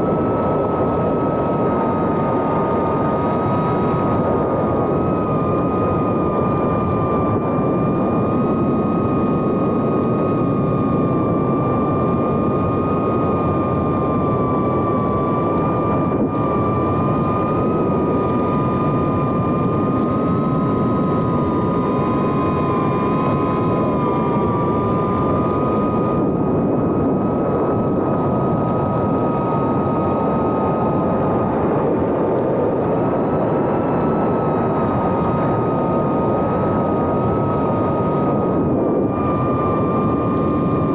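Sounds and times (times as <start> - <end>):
rush of prop wash and wind: 0.0 - 40.9.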